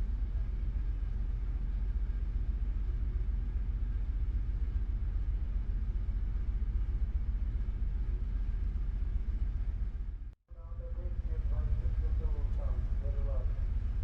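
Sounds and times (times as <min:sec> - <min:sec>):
ferry engine rumbling: 0:00.0 - 0:14.0.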